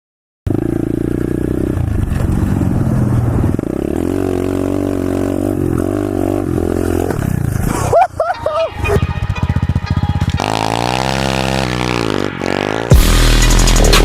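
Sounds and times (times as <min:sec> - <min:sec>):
motorbike engine revving: 0:00.5 - 0:08.2, 0:08.8 - 0:14.0.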